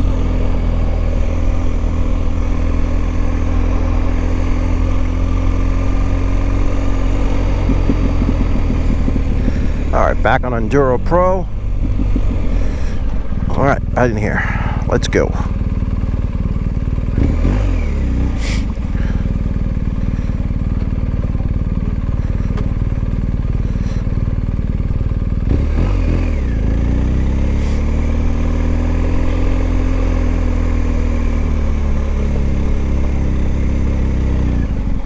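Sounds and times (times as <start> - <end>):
motorcycle engine riding off: 0.0 - 35.0.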